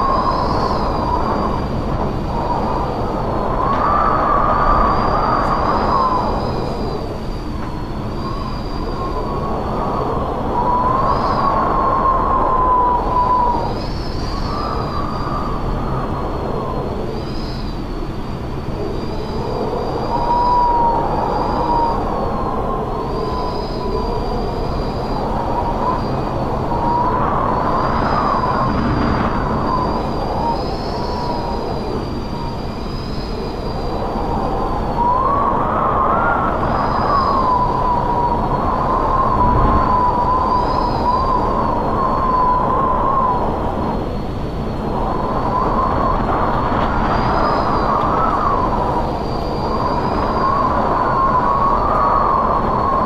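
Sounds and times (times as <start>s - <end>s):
strong gusting wind: 0.0s - 53.0s
wind whistling: 0.0s - 53.0s.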